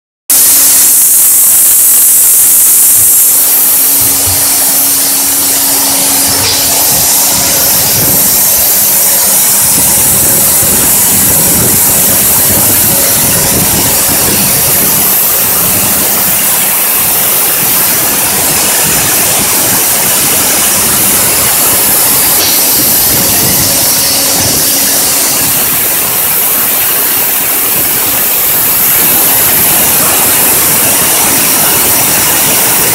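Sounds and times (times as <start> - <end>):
polishing wheel hissing on pot: 0.4 - 32.9.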